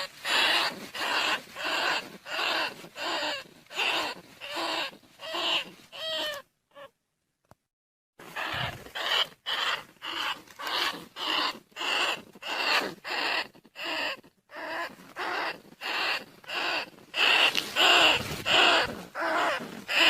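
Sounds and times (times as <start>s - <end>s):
rat squeaks: 0.0s - 6.9s, 8.2s - 20.0s.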